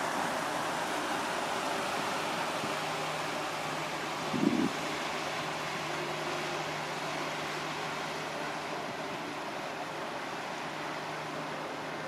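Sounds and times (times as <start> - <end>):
city bustle: 0.0 - 12.0
wind: 0.0 - 12.0.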